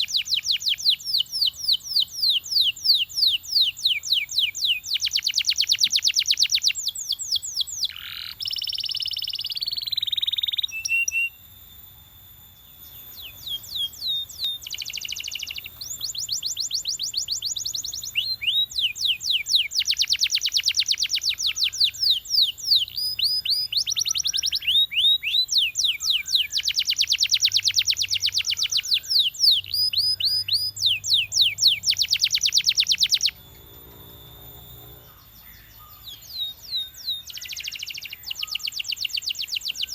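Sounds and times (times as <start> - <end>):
canary singing fast trills: 0.0 - 39.9.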